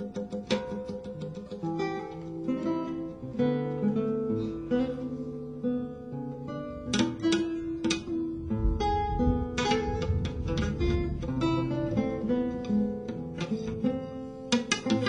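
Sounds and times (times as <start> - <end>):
plucked lute melody: 0.0 - 15.0
strummed lute chords: 0.0 - 15.0.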